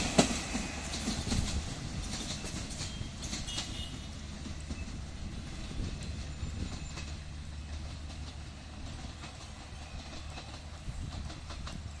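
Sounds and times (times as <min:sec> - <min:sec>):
wheel clicks over rail joints: 0:00.0 - 0:03.8, 0:06.0 - 0:12.0
train wagons rumbling: 0:00.0 - 0:12.0.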